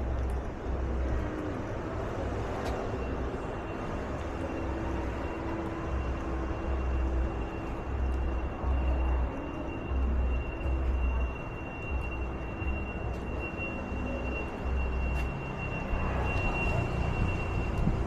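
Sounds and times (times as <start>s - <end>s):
traffic hum: 0.0s - 18.0s.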